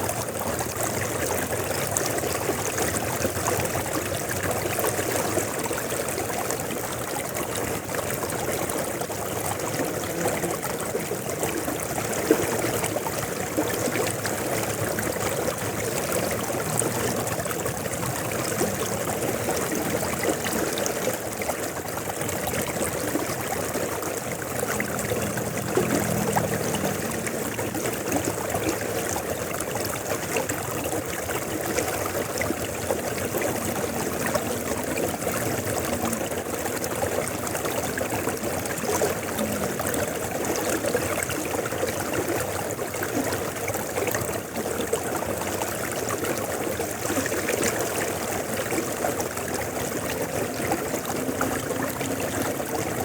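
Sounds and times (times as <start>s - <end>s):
river water flowing and splashing: 0.0s - 53.0s.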